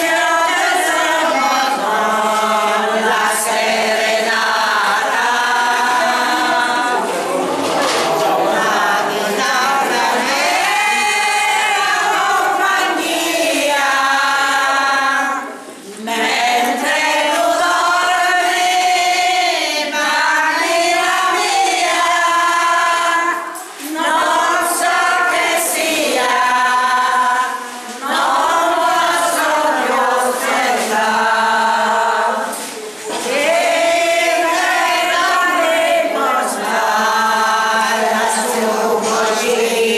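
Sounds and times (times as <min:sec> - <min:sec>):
women singing folk song: 0:00.0 - 0:39.9.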